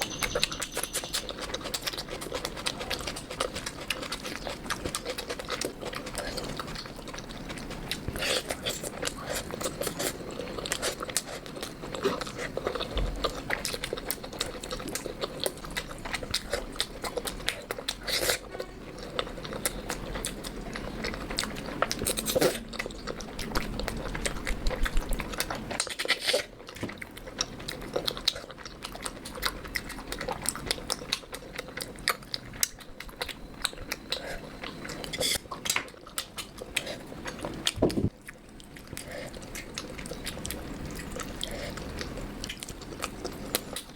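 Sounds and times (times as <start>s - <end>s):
person chewing and biting food: 0.0s - 43.9s.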